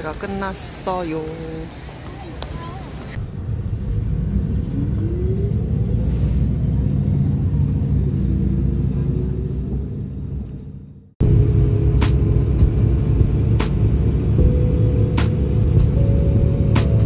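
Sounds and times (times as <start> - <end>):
bus engine and road rumble: 0.0 - 17.0
rising engine whine: 3.0 - 17.0.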